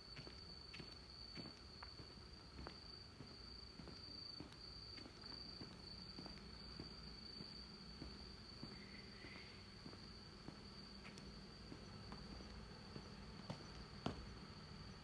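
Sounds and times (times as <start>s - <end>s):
faint footsteps: 0.0s - 15.0s.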